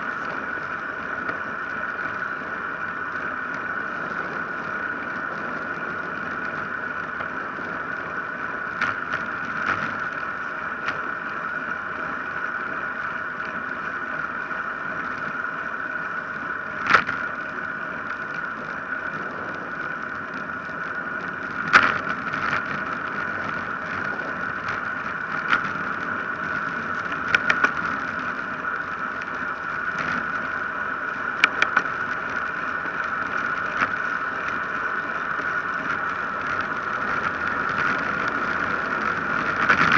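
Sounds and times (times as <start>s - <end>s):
bike tyre noise: 0.0s - 39.9s
high steady hum: 0.0s - 39.9s
rushing wind: 0.0s - 39.9s.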